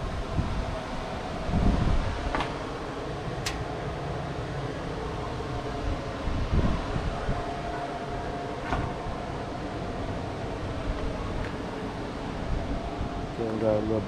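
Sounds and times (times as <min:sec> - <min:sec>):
faint whine: 0:00.0 - 0:14.0
mechanical hum: 0:00.0 - 0:14.0.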